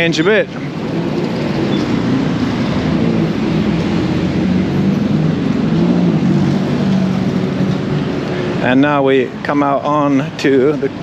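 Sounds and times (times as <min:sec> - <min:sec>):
road noise: 0:00.0 - 0:11.0
vehicle engines passing: 0:00.0 - 0:11.0.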